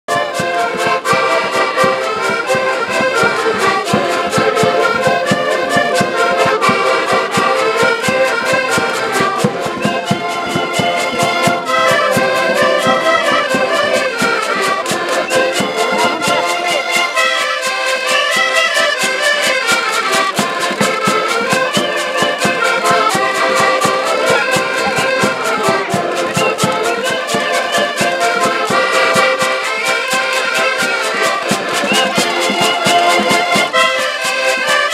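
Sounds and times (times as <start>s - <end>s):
button accordions playing folk tune: 0.1s - 34.9s.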